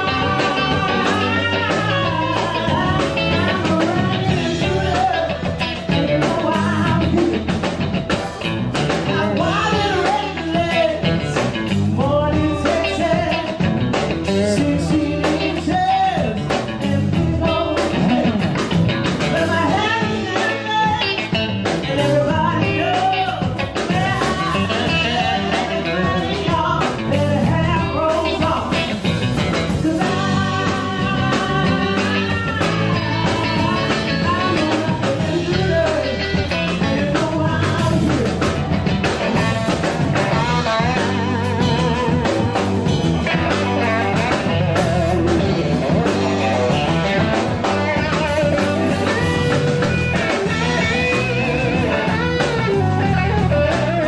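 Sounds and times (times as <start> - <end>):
drum kit: 0.0 - 54.0
electric bass: 0.0 - 54.0
woman singing: 0.0 - 54.0.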